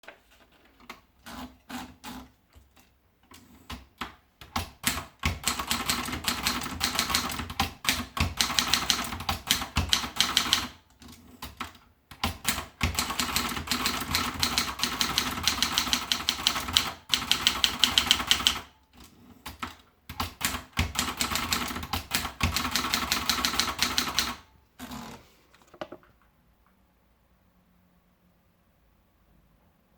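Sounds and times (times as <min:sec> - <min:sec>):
typewriter typing: 0:00.9 - 0:25.7.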